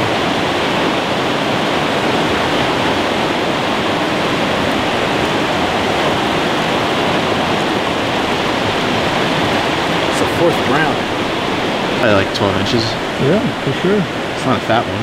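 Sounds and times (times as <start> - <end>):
creek water rushing over riffles: 0.0 - 15.0.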